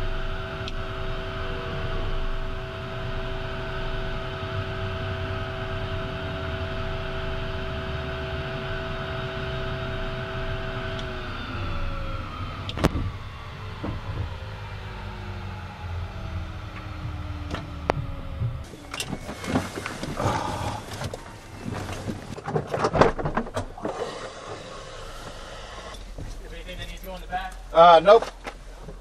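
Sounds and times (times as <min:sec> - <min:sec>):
jet engines spooling down: 0:00.0 - 0:22.0, 0:23.8 - 0:27.3
jet engines idling with whine: 0:00.0 - 0:22.5, 0:23.5 - 0:29.0.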